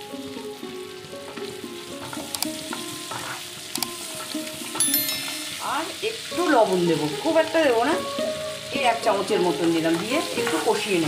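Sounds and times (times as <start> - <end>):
soft background melody: 0.0 - 11.0
vegetables sizzling in oil: 0.0 - 11.0.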